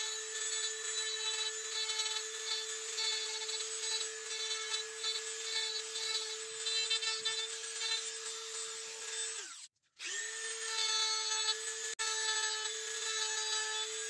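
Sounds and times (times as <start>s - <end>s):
rotary tool whining: 0.0s - 14.0s.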